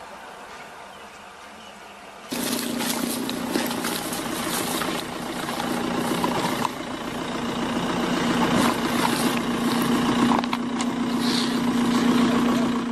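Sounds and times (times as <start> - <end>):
engine idling with pulsing throb: 2.3 - 12.9.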